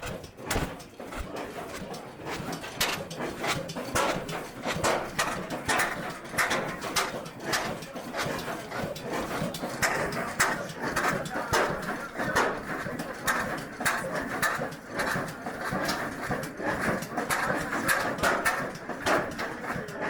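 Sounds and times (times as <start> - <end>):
old engine exhaust chuffing: 0.0 - 20.0.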